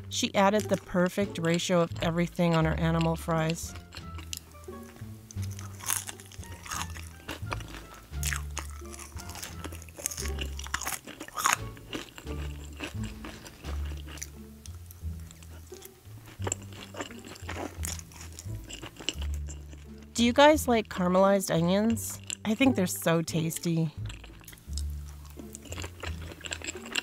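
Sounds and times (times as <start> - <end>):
background music with bass line: 0.0 - 27.0
chewing and crunching fries: 0.0 - 27.0.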